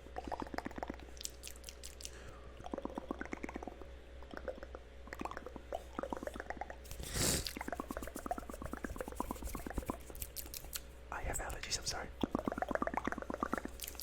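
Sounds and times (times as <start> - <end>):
wet mouth clicks and smacks: 0.2 - 10.9, 12.2 - 14.0.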